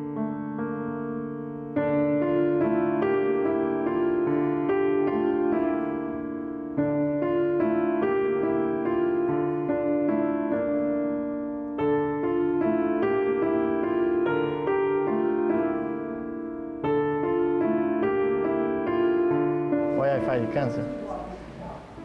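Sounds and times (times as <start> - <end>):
gentle piano piece: 0.0 - 22.0.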